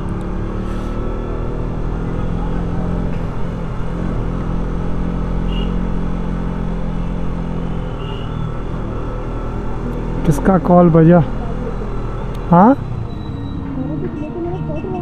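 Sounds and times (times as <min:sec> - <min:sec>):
road noise: 0:00.0 - 0:15.0
vehicle engine droning: 0:00.0 - 0:15.0.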